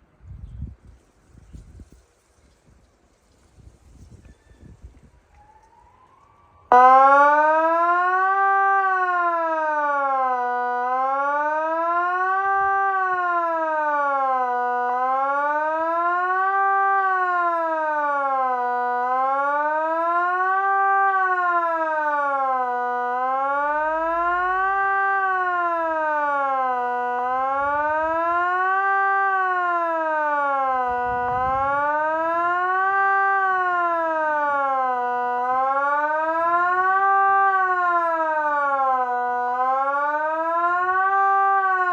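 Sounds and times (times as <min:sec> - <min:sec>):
rising and falling siren: 0:02.5 - 0:41.9.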